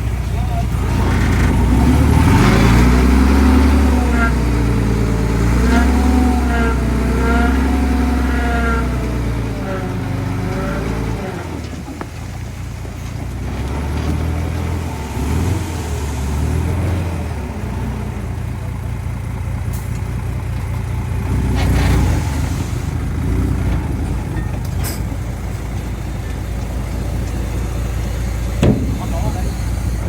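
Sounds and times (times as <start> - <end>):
diesel engines of earthmoving machinery: 0.0 - 30.0.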